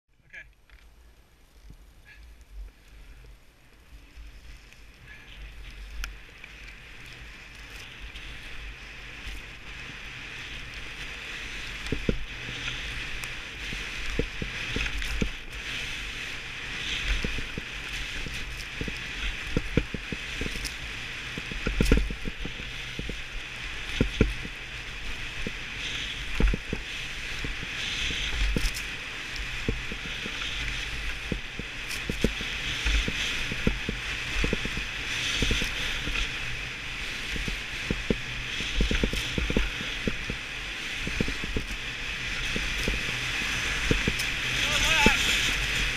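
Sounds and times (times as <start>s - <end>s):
skis scraping over snow: 0.6s - 45.9s
wind buffeting microphone: 5.4s - 45.9s.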